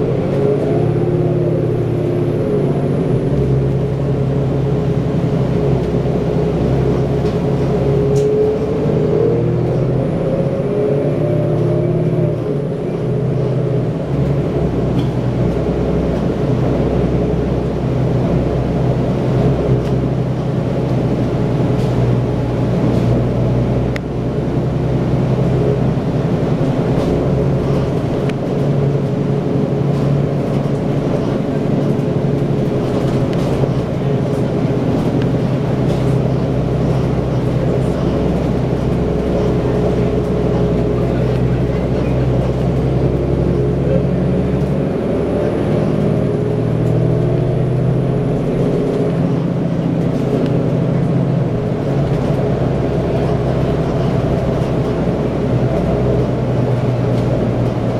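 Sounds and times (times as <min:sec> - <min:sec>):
bus engine drone: 0:00.0 - 0:57.9.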